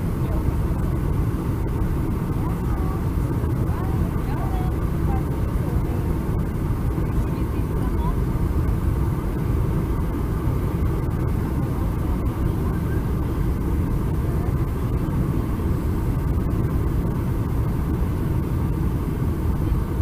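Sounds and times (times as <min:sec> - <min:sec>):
airplane cabin engine noise: 0:00.0 - 0:20.0.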